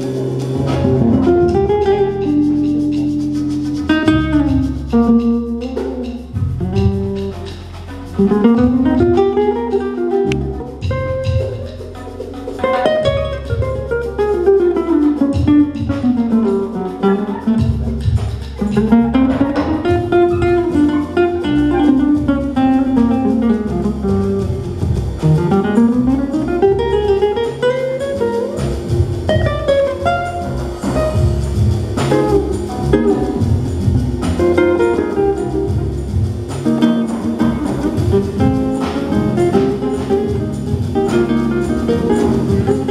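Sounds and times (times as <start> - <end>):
acoustic guitar melodic runs: 0.0 - 42.9
electric bass: 0.0 - 42.9
light percussion: 0.0 - 42.9.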